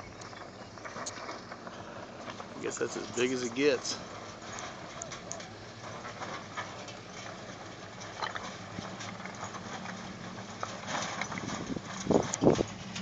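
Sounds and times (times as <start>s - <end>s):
faint truck engine: 0.0s - 13.0s
stones crunching under tyres: 0.0s - 13.0s.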